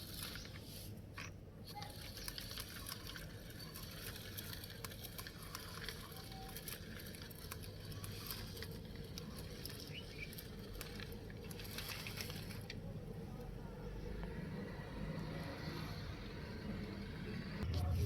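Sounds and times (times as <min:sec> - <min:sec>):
toy wheels rolling on gritty ground: 0:00.0 - 0:18.0.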